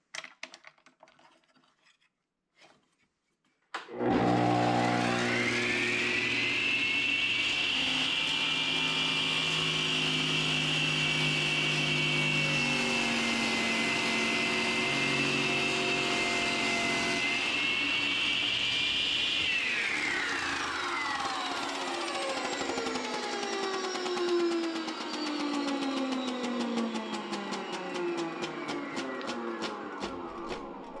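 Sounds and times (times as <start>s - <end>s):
masonry saw whining: 3.9s - 31.0s.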